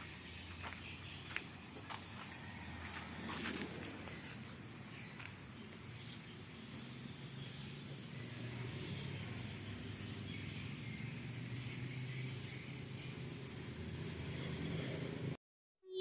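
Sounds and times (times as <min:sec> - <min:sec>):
outdoor background noise: 0:00.0 - 0:15.4.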